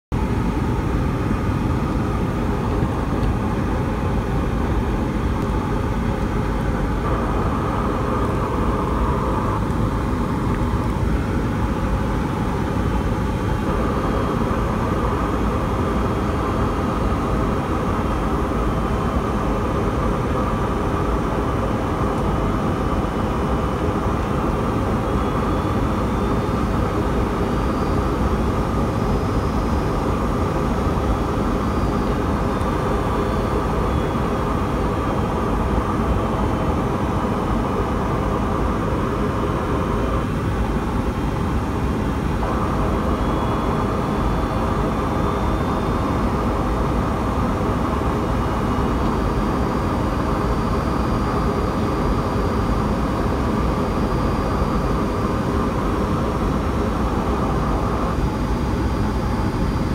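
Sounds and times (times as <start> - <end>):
high engine hum: 0.1 - 59.9
jet engine cabin rush: 0.2 - 59.9.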